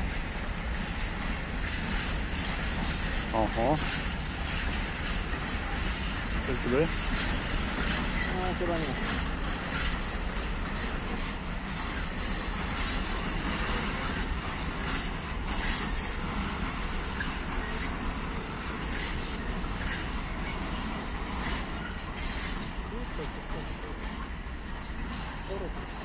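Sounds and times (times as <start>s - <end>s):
freight train rumbling past: 0.0s - 26.0s
wheels clicking over rail joints: 0.0s - 26.0s.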